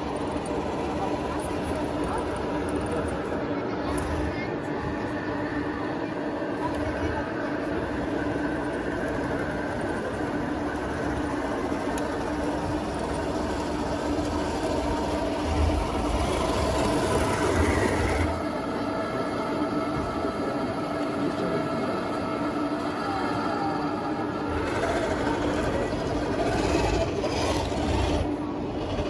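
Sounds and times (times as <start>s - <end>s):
model tanks humming: 0.0s - 29.0s.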